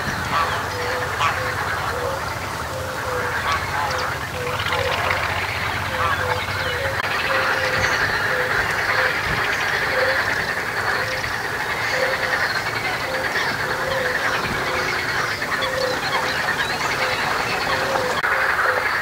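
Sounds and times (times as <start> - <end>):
animal chorus din: 0.0 - 19.0
low animal call notes: 0.0 - 19.0.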